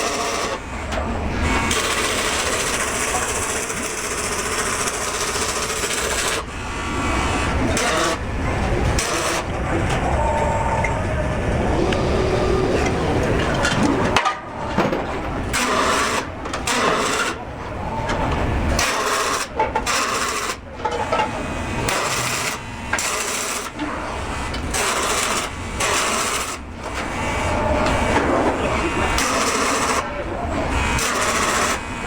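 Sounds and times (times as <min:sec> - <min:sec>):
noisy mechanical din: 0:00.0 - 0:32.0.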